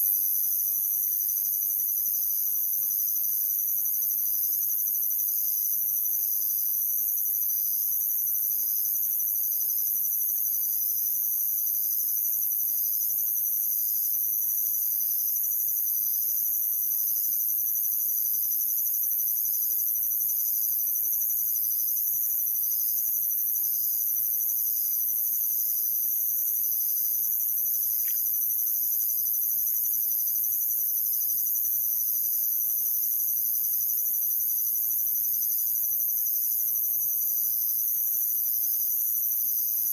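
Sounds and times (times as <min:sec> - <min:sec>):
high-pitched insect trill: 0:00.0 - 0:39.9
lower insect chirp pulsing: 0:00.0 - 0:39.9.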